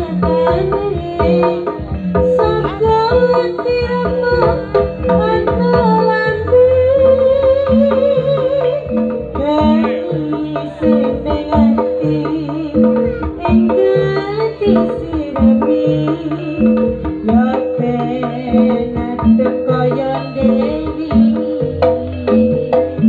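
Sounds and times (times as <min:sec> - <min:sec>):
gamelan music: 0:00.0 - 0:23.0
hand drums steady beat: 0:00.0 - 0:23.0.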